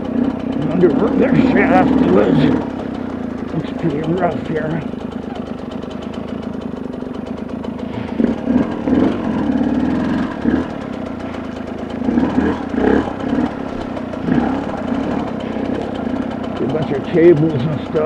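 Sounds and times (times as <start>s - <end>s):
dirt bike engine low revs: 0.0s - 18.0s.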